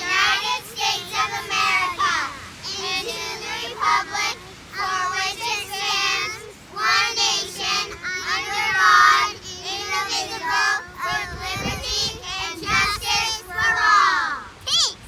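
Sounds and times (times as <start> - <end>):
high-pitched child-like singing: 0.0 - 15.0.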